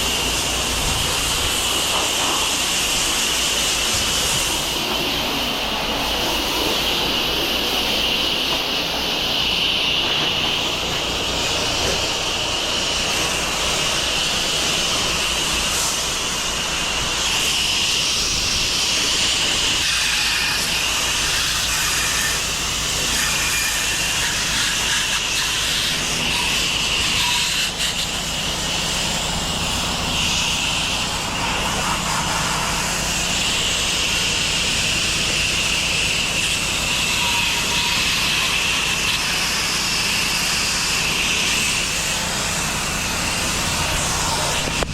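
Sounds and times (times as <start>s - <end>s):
pressure washer engine drone: 0.0s - 44.9s
pressure washer water spray hissing: 0.0s - 44.9s.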